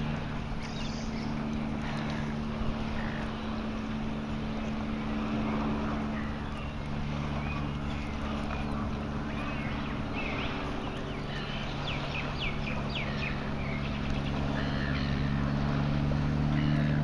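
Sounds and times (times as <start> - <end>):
boat engine humming: 0.0 - 17.0
gulls calling: 0.0 - 17.0.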